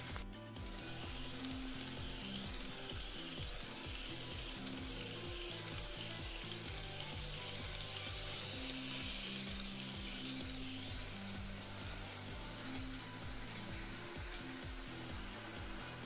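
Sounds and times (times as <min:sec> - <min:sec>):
model train wheels and motor hissing: 0:00.0 - 0:16.0.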